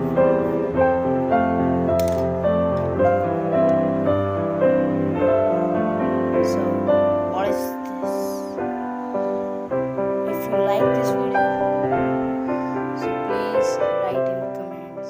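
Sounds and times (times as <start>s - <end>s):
slow background music: 0.0s - 15.0s.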